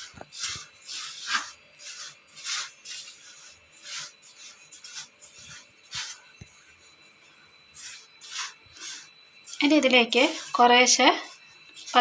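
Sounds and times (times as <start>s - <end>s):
dry flour stirred in bowl: 0.0s - 12.0s.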